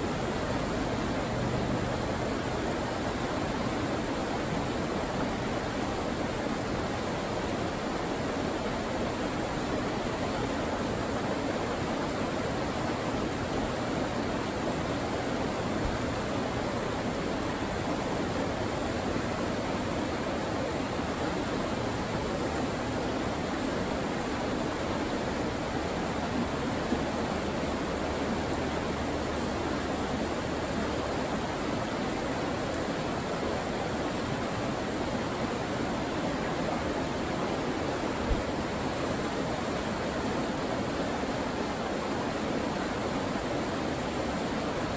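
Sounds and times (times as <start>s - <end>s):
river water rushing over rapids: 0.0s - 44.9s.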